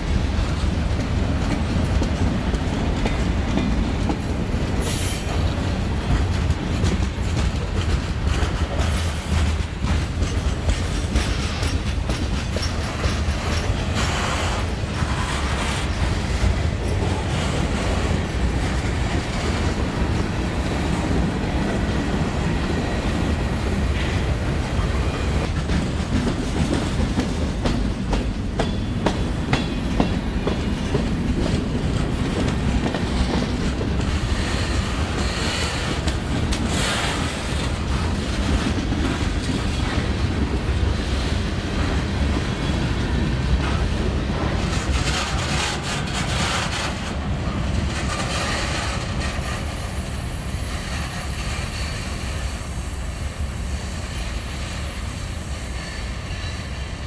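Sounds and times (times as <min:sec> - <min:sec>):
wheels clacking over rail joints: 0:00.0 - 0:50.0
freight cars rumbling on rails: 0:00.0 - 0:57.0.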